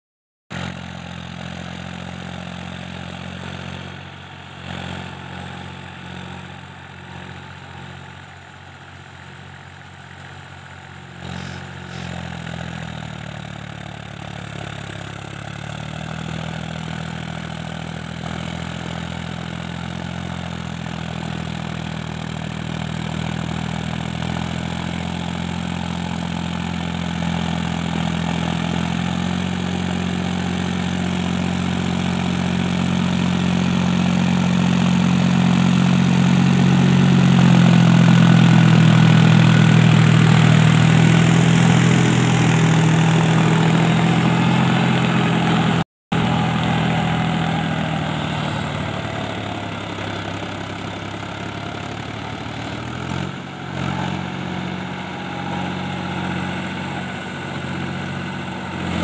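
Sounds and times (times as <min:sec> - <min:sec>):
tractor diesel engine running: 0:00.6 - 0:59.0.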